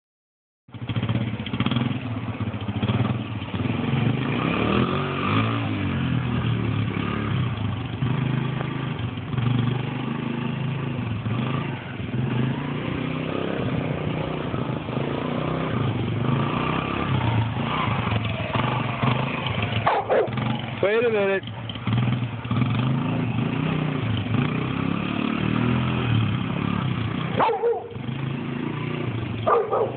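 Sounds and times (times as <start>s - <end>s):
dirt bike engine revving: 0.7s - 29.9s.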